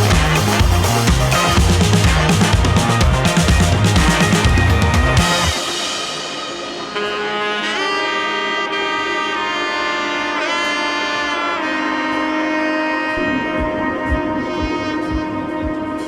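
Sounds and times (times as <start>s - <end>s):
horn-like lead melody: 0.0s - 16.0s.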